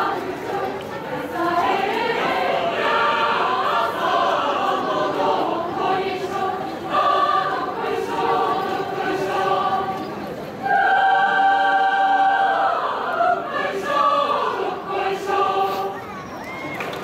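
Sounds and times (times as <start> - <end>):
choir singing: 0.0 - 16.2.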